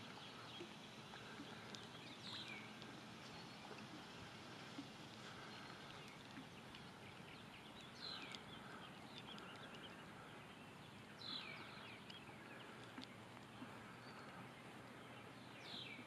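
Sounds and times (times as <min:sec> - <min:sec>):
bird calling faintly: 0:00.0 - 0:16.0.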